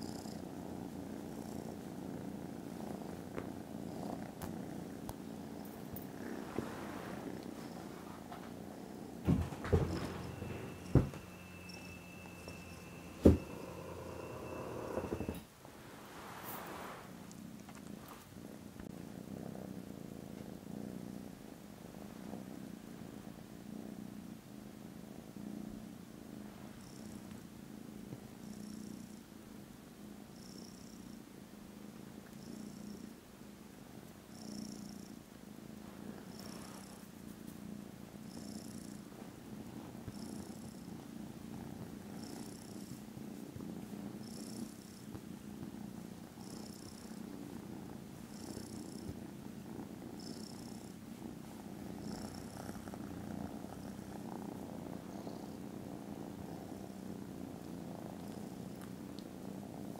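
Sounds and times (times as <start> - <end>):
kittens purring: 0.0 - 59.9.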